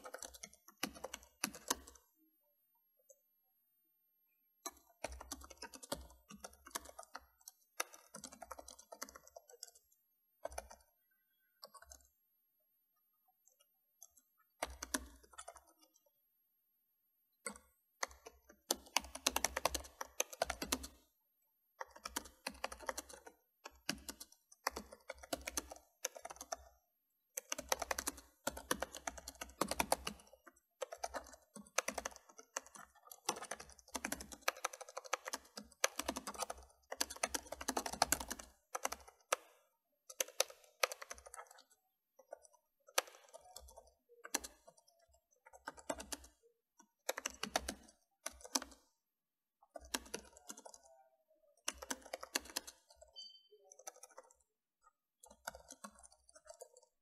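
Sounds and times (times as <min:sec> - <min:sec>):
typing on a keyboard: 0:00.0 - 0:02.1, 0:04.6 - 0:12.2, 0:13.4 - 0:16.1, 0:17.4 - 0:21.1, 0:21.8 - 0:49.0, 0:49.6 - 0:57.0.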